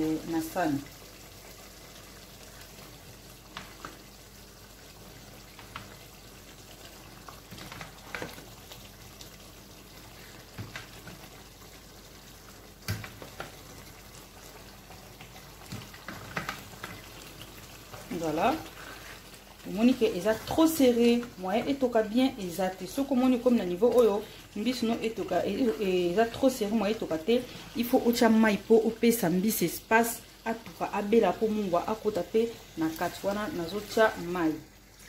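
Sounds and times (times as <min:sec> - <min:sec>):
soup bubbling in pot: 0:00.6 - 0:29.1.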